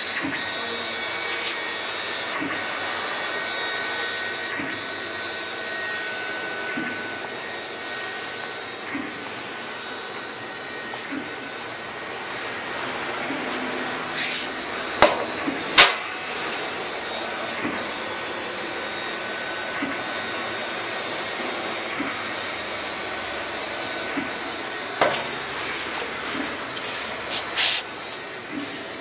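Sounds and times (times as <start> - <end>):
cnc router whirring: 0.0 - 29.0.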